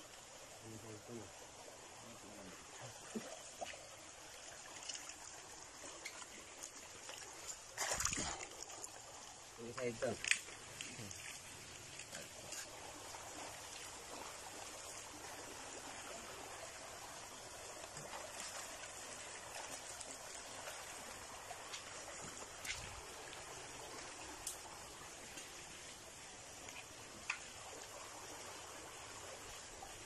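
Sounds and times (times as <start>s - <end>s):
water flowing over rocks: 0.0s - 30.0s.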